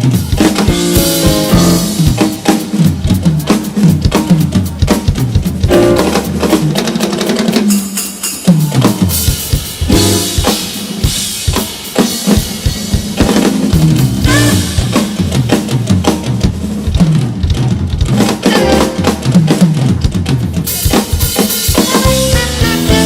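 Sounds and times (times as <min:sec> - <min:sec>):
drum kit strokes: 0:00.0 - 0:23.0
jazz band playing: 0:00.0 - 0:23.0.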